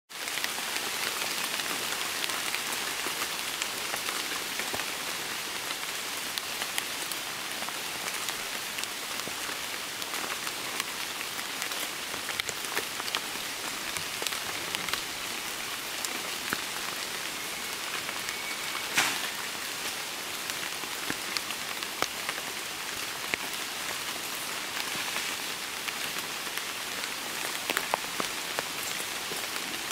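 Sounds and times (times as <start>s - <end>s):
rain falling on foliage: 0.1s - 29.9s.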